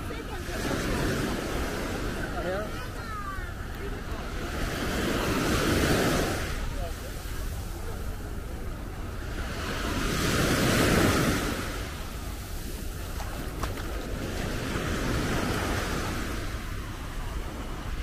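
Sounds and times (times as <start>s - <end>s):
waves breaking on beach: 0.0s - 18.0s.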